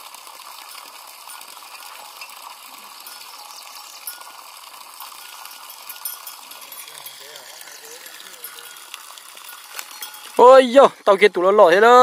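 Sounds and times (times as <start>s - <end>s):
water trickling: 0.0s - 12.0s
small clinking ticks: 0.5s - 10.6s.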